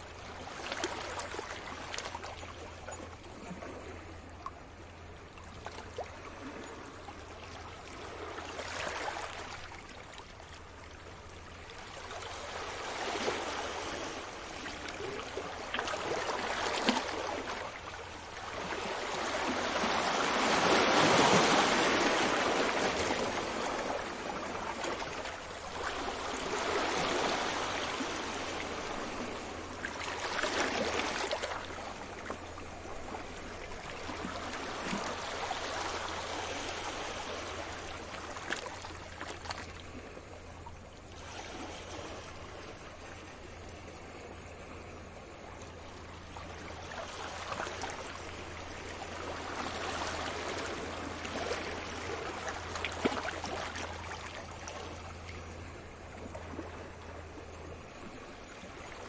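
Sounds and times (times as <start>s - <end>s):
sea waves washing in: 3.4s - 59.0s.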